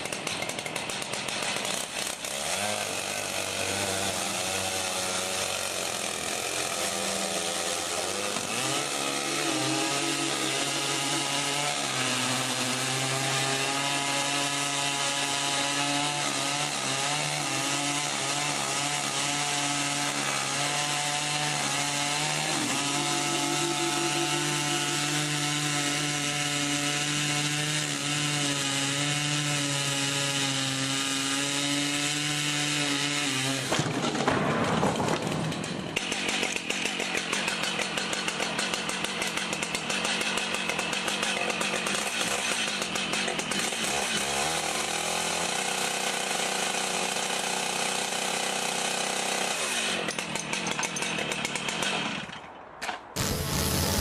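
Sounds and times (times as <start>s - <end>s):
chainsaws cutting wood: 0.0s - 54.0s.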